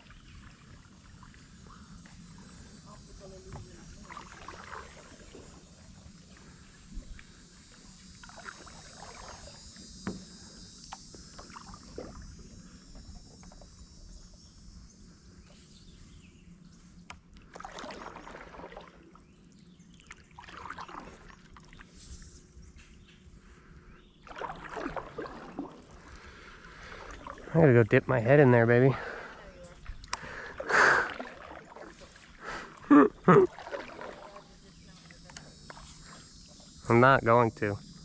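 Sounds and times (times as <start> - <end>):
paddle splashing in water: 0.0 - 13.8, 17.2 - 22.4, 24.2 - 36.7.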